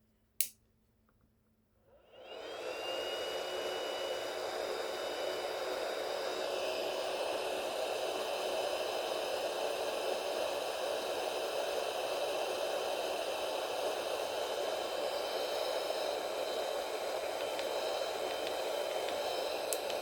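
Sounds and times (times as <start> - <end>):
hot air gun blowing: 2.1 - 20.0.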